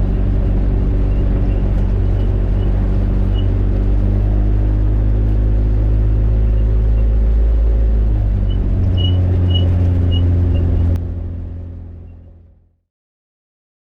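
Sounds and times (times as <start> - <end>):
two-stroke aircraft engine running: 0.0 - 12.6.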